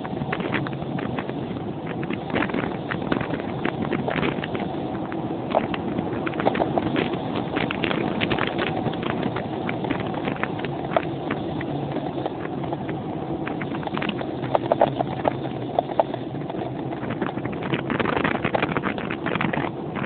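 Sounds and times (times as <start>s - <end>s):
rumble of travelling at speed: 0.0s - 20.0s
wind buffeting microphone: 0.0s - 20.0s.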